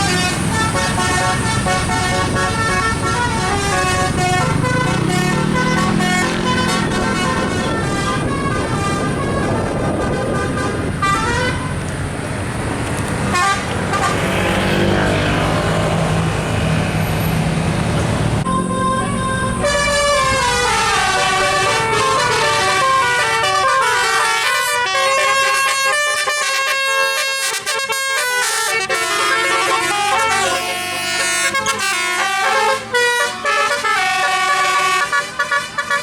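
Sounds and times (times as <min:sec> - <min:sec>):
musical air horns playing tune: 0:00.0 - 0:11.8, 0:13.2 - 0:16.8, 0:18.4 - 0:36.0
road noise: 0:00.0 - 0:36.0
vehicle engines running: 0:00.0 - 0:36.0.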